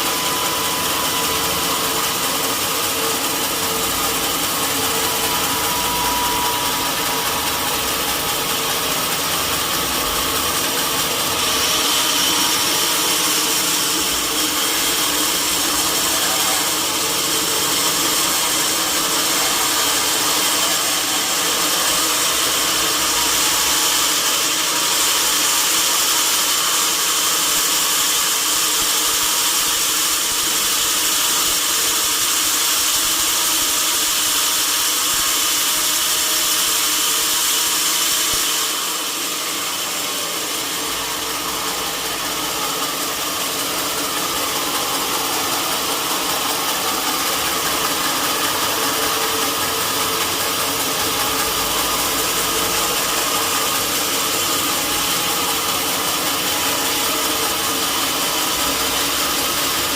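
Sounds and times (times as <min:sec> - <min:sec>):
sawmill saw whining: 0:00.0 - 0:59.9.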